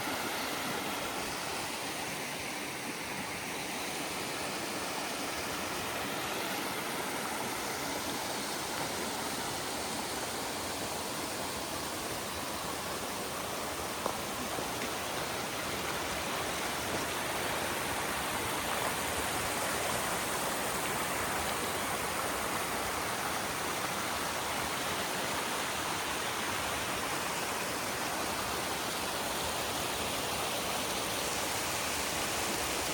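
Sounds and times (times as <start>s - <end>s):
water rushing over rocks: 0.0s - 32.9s.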